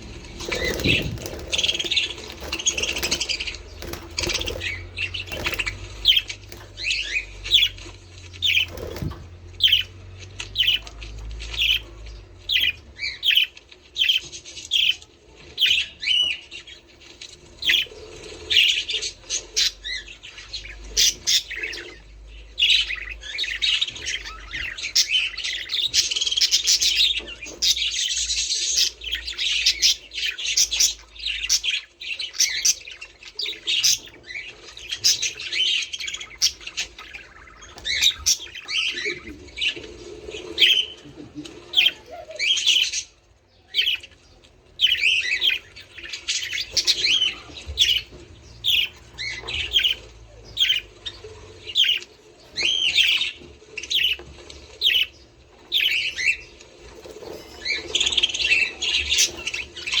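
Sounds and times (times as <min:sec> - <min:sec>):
budgerigars chirping: 0:00.0 - 1:00.0.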